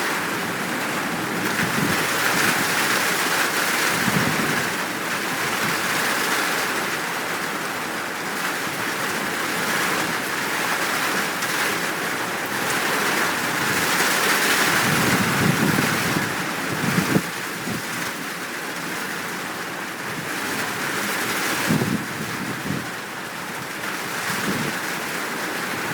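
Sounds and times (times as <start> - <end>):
heavy rain: 0.0 - 25.9.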